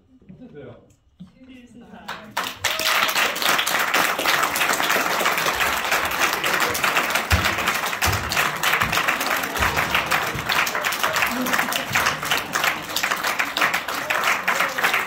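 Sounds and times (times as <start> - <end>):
audience applauding: 2.1 - 15.0.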